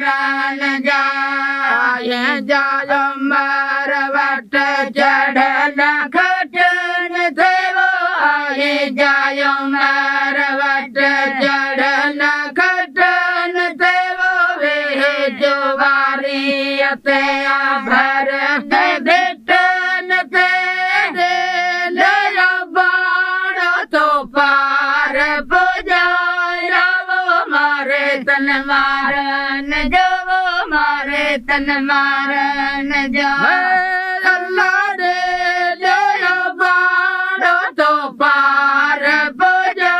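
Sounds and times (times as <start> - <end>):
women singing unaccompanied: 0.0 - 39.9.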